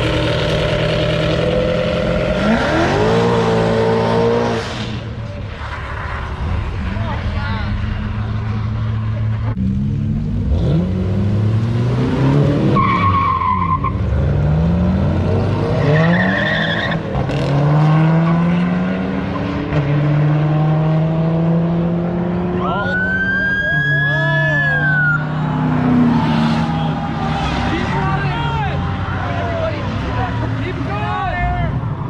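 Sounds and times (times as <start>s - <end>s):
tires squealing: 0.0s - 9.5s, 12.1s - 14.4s, 15.4s - 19.8s, 22.5s - 32.0s
car engine revving: 0.0s - 23.3s, 24.1s - 31.1s.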